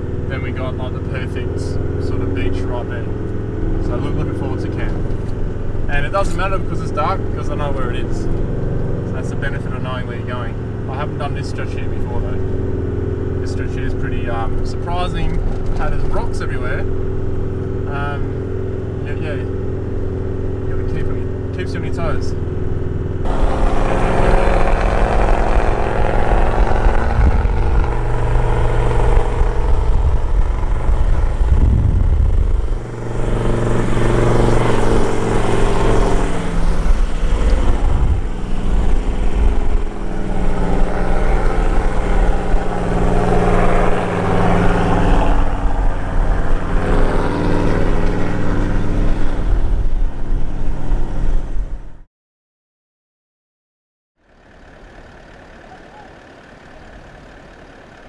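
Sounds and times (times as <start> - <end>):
vehicle engine revving under load: 0.0 - 49.9.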